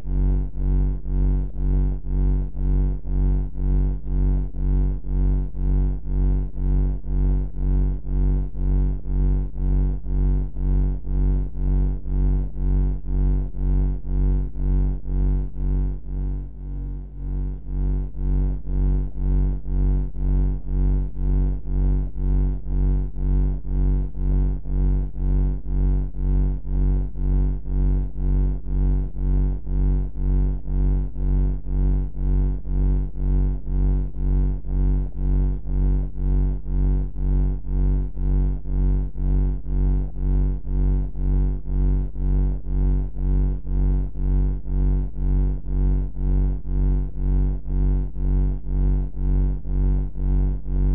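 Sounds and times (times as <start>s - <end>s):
low pulsing droning hum: 0.0s - 50.9s.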